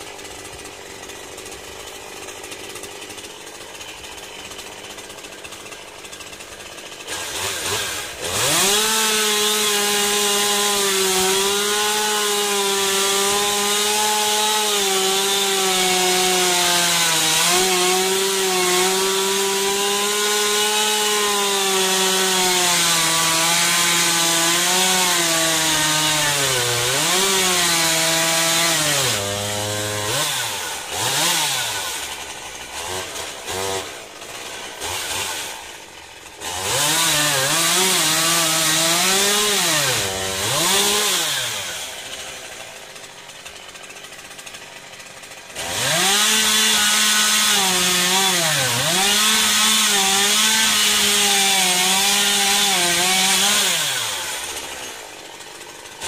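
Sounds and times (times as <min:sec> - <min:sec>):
chainsaw cutting a log: 0:00.0 - 0:56.0.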